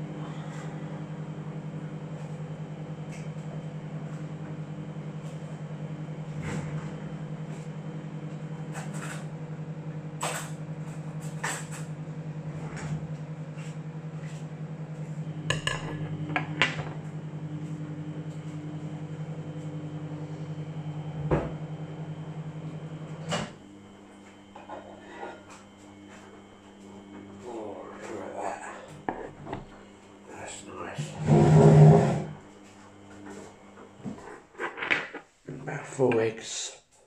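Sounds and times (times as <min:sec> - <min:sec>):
electric appliance hum: 0:00.0 - 0:37.0.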